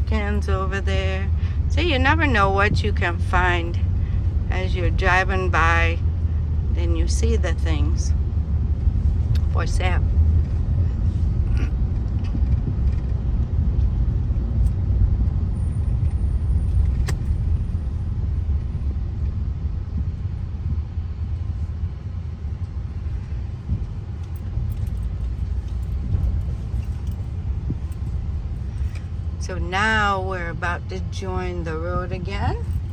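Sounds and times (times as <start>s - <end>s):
car driving rumble from inside: 0.0s - 32.9s.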